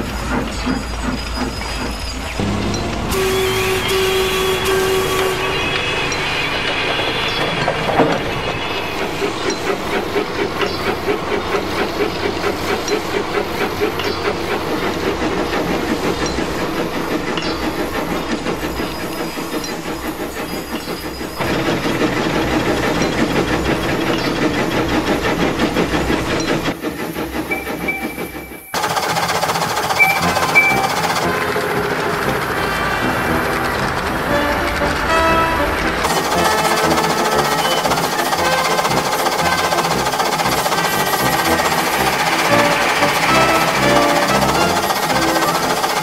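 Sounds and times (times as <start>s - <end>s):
steam hissing: 0.0s - 23.1s, 26.8s - 35.4s, 36.0s - 46.0s
steam locomotive chuffing: 0.0s - 46.0s.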